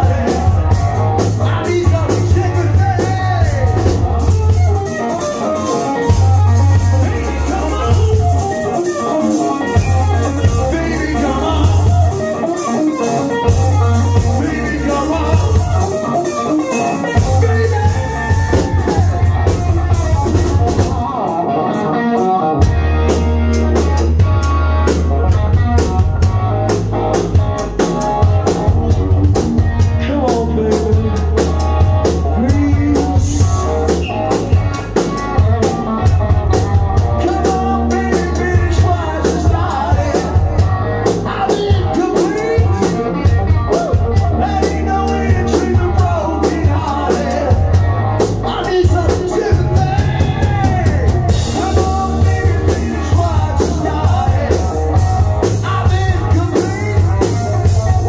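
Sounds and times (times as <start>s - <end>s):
bass: 0.0s - 58.0s
drums: 0.0s - 58.0s
overdriven electric guitar: 0.0s - 58.0s.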